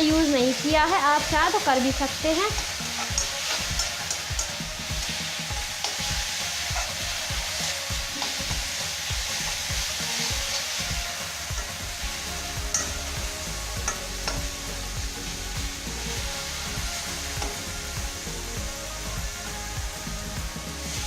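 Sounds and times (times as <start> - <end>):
paste sizzling in hot oil: 0.0 - 21.0.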